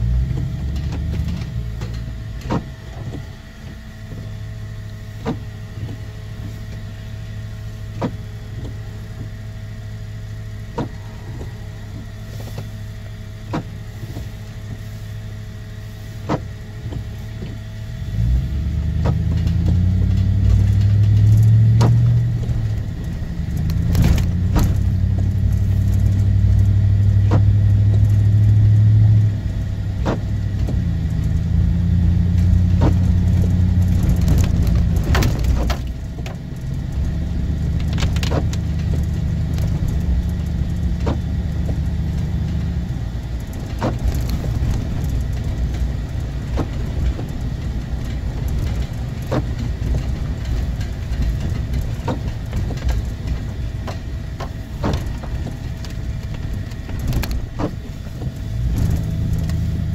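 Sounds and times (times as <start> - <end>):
car engine and road hum: 0.0 - 59.9
windshield wipers knocking: 0.3 - 4.3, 10.7 - 12.7, 13.4 - 14.4, 16.2 - 17.6, 18.8 - 29.3, 30.0 - 42.7, 43.3 - 59.9.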